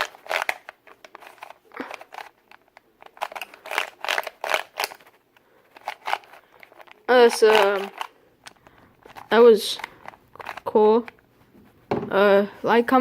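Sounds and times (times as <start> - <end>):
puzzle cube clicking as turned: 0.0 - 11.2.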